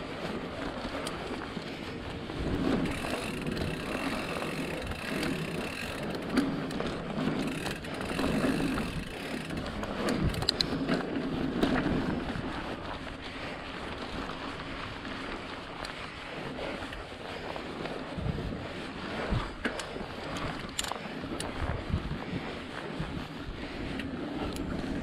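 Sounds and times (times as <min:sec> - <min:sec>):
bike rattles and clicks: 0:00.0 - 0:25.0
bike tyre noise on dirt: 0:00.0 - 0:25.0.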